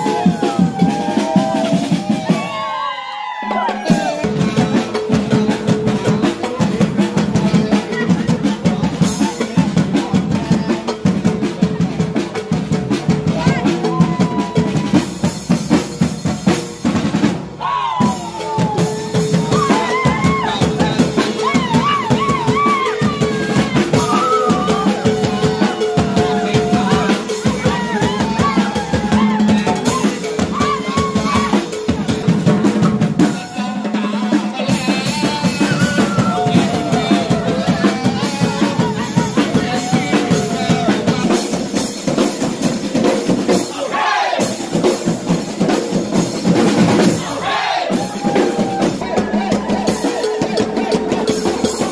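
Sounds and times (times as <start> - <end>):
marching percussion band: 0.0 - 51.9.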